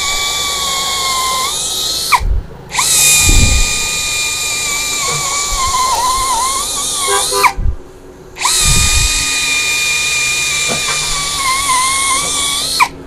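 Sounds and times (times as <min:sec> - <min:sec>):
cordless drill boring into wood: 0:00.0 - 0:07.4, 0:08.4 - 0:13.0.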